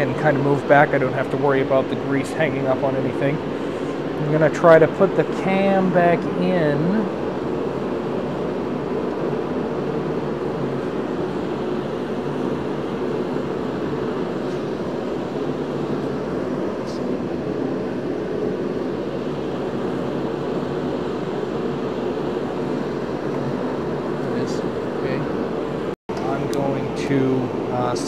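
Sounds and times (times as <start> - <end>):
heater blowing hum: 0.0 - 28.0.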